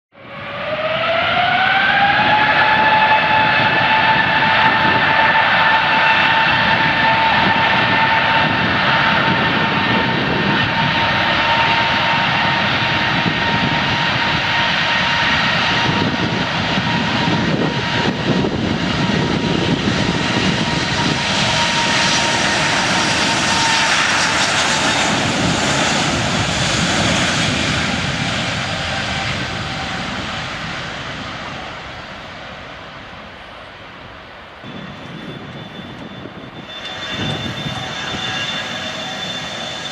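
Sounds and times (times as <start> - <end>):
jet engine roar: 0.1 - 39.9
jet engine whine: 0.1 - 39.9.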